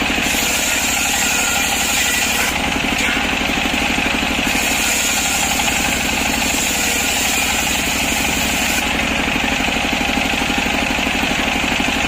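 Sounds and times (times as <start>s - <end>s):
chainsaw cutting log: 0.0s - 10.5s.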